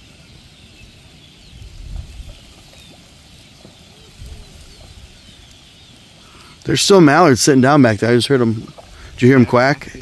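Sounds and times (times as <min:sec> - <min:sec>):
faint distant bird calls: 0:00.0 - 0:10.0.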